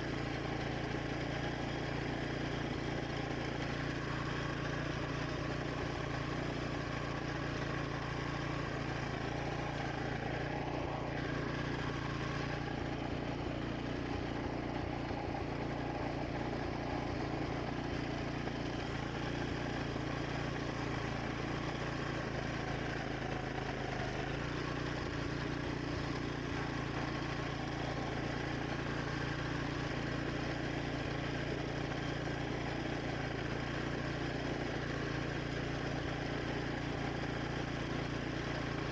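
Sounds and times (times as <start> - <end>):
mower engine cutting grass: 0.0 - 38.9.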